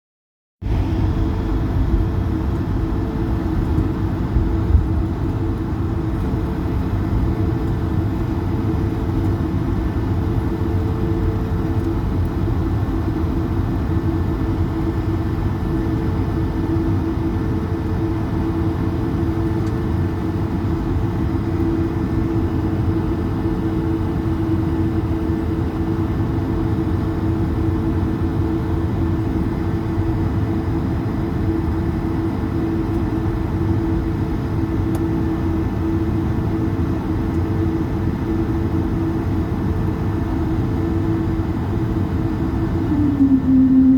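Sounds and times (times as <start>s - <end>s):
jet engines droning in cabin: 0.6s - 43.9s.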